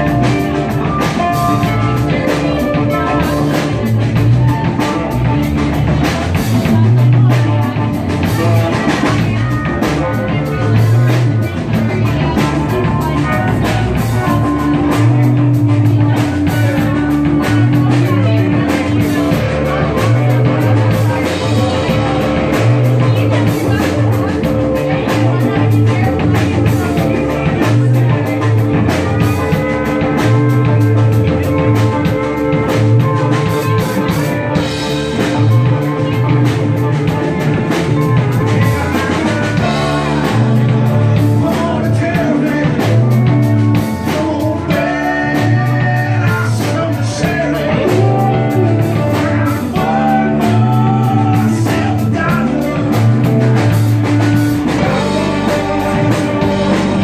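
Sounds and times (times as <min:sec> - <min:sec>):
live rock band playing: 0:00.0 - 0:57.0
man singing: 0:00.0 - 0:57.0.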